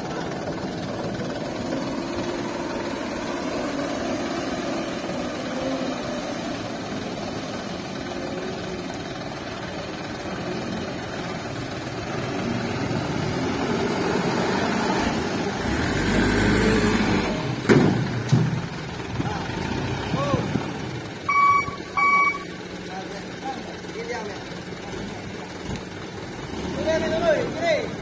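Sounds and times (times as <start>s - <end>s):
diesel truck engines idling: 0.0s - 28.0s
truck driving up: 0.0s - 28.0s.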